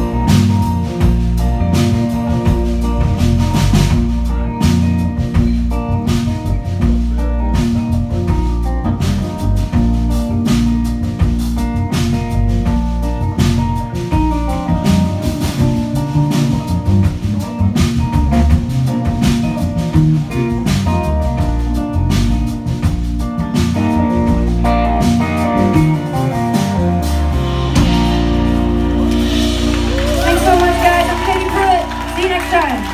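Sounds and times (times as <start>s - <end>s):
drums hitting steadily: 0.0s - 32.9s
rock band playing: 0.0s - 32.9s.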